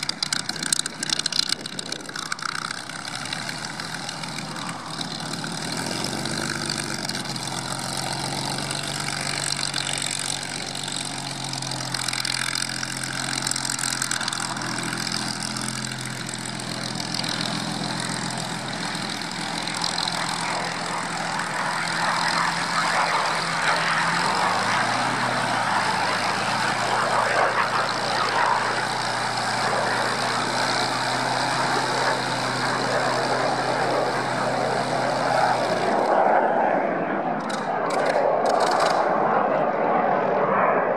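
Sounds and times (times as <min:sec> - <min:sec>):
propeller aircraft engine running: 0:00.0 - 0:40.9.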